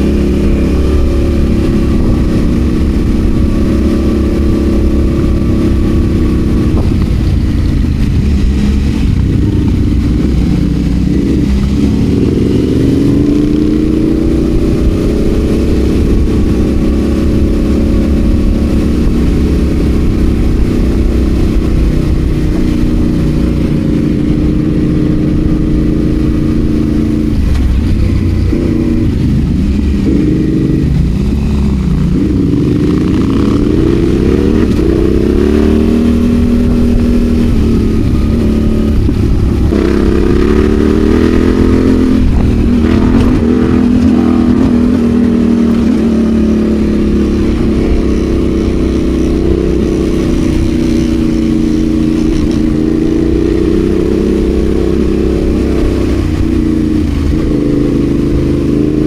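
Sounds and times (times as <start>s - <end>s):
motorcycle engine revving: 0.0s - 59.0s
steady low rumble: 0.0s - 59.0s.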